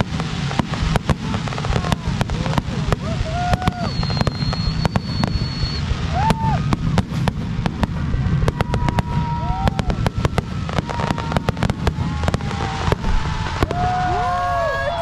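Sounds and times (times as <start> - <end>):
firework whistling tones: 0.0 - 15.0
fireworks bangs and crackles: 0.0 - 15.0
low rumble: 0.0 - 15.0.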